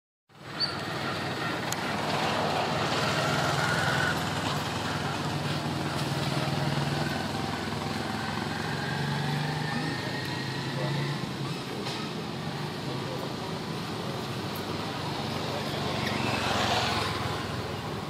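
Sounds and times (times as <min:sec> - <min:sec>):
engine rumbling: 0:00.3 - 0:18.0.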